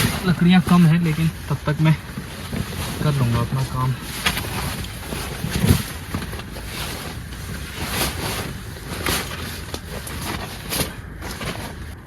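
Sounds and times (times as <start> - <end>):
gear rustling: 0.0 - 12.0.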